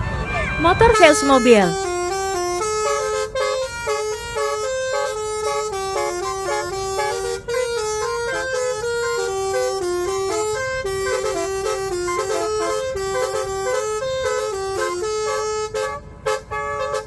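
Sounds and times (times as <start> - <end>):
musical air horn tune: 0.6 - 17.0.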